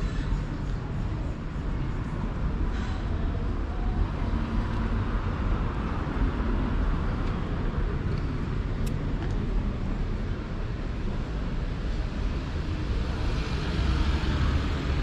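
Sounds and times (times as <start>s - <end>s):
traffic noise rumble: 0.0s - 15.0s.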